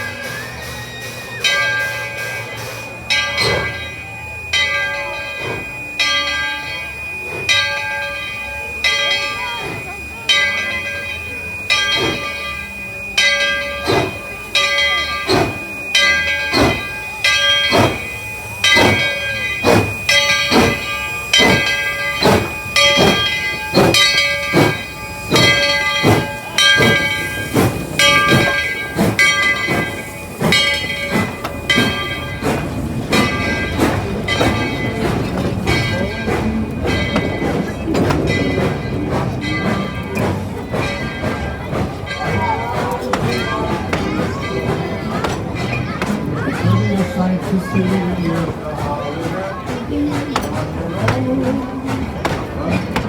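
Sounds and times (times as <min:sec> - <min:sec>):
locomotive bell ringing: 0:00.0 - 0:53.0
moving train rumble: 0:00.0 - 0:53.0.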